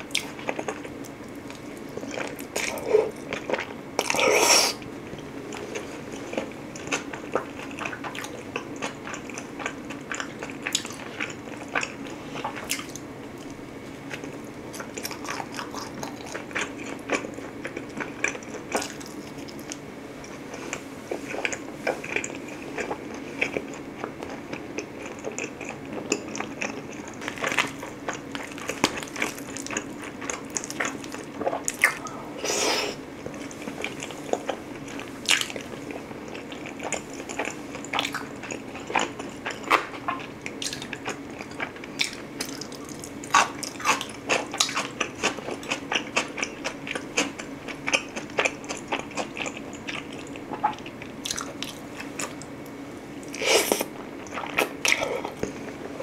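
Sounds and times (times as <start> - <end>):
person chewing food: 0.1 - 52.6, 53.2 - 55.8.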